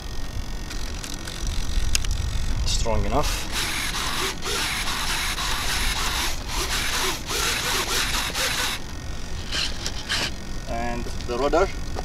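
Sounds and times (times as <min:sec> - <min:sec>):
servos whirring: 0:00.0 - 0:11.3
steady low rumble: 0:00.0 - 0:12.0.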